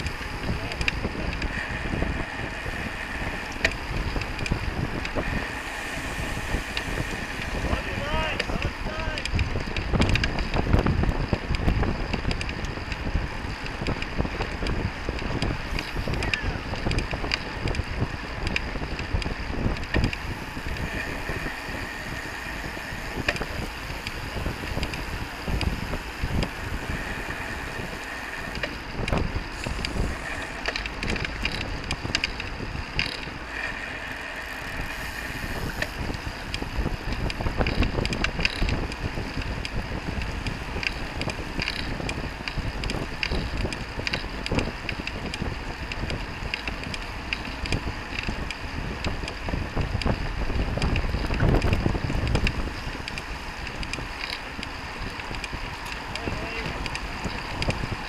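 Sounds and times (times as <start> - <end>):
road noise: 0.0 - 58.0
wind rushing over microphone: 0.0 - 58.0.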